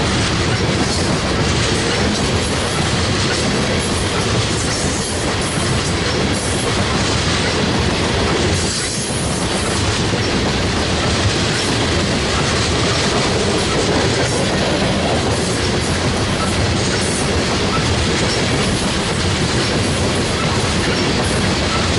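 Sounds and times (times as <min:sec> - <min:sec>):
steel wheels running on rails: 0:00.0 - 0:21.9.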